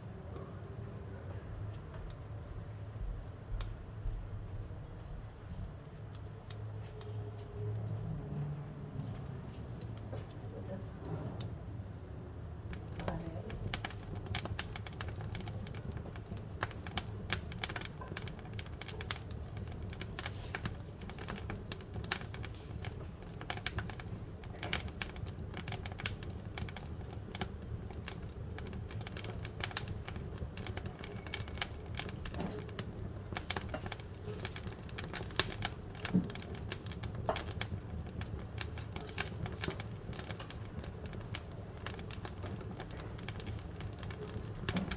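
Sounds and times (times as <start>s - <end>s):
low fire rumble: 0.0s - 44.9s
firewood crackling and popping: 0.2s - 44.9s.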